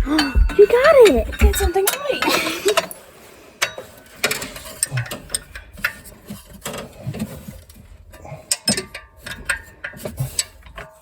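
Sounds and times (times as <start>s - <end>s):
hand tools clinking on metal: 0.0s - 6.8s, 8.1s - 11.0s.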